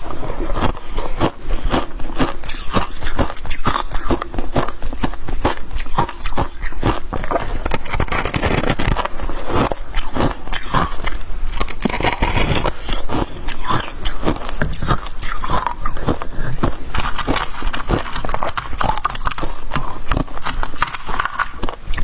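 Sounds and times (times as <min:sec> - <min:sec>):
frost being crunched by teeth: 0:00.4 - 0:22.0.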